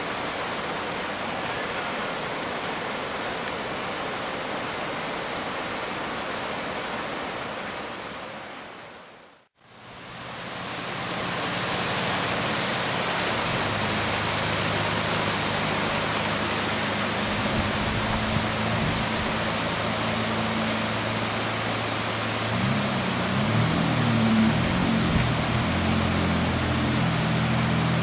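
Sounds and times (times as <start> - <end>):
floodwater running: 0.0 - 8.2, 9.6 - 28.0
heavy rain on flooded street: 0.0 - 28.0.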